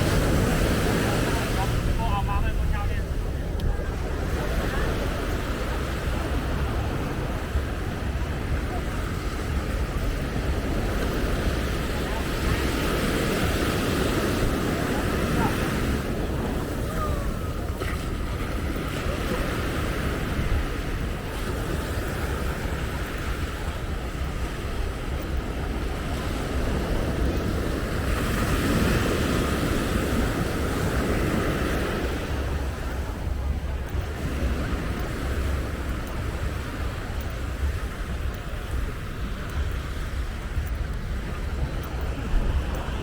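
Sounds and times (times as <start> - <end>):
surf washing on beach: 0.0 - 43.0
wind buffeting microphone: 0.0 - 43.0.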